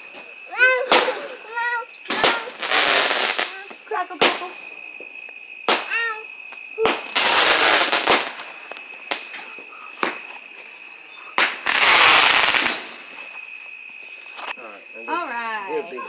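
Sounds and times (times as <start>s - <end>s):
fireworks bangs: 0.0s - 13.5s
fireworks crackling: 0.0s - 13.6s.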